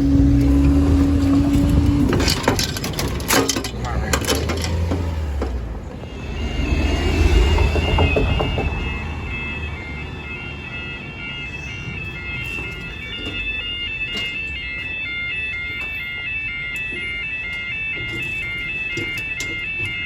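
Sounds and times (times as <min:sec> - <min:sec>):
faint traffic rumble: 0:00.0 - 0:20.0
two-tone warning alarm: 0:00.0 - 0:20.0.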